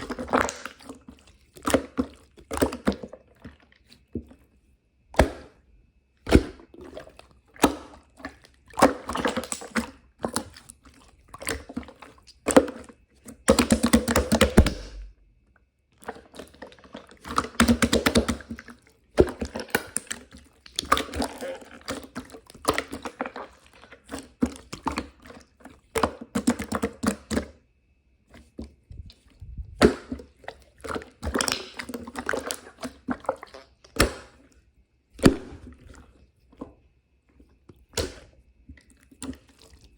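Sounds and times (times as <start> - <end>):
wet crackling squishing: 0.0 - 4.0, 6.2 - 15.2, 15.9 - 27.4, 29.0 - 34.6, 37.8 - 39.9.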